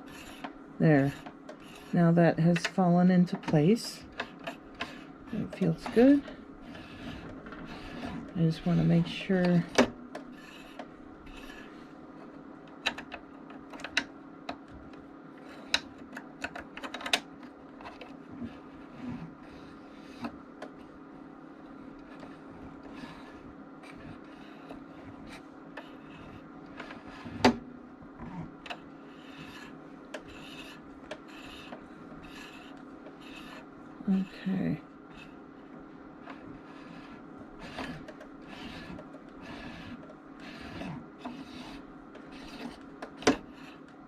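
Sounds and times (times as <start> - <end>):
sewing machine rubbing: 0.0 - 12.4, 17.8 - 27.6, 28.2 - 43.9
faint hum: 0.0 - 44.0.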